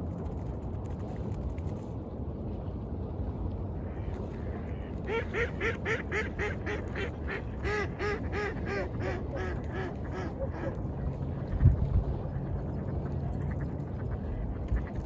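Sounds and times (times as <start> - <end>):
low rumble of waves: 0.0 - 15.0.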